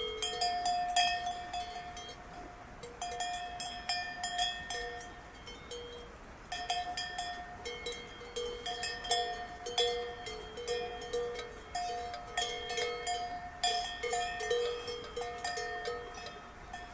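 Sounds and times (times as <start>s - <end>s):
cowbells clanking: 0.0s - 16.9s.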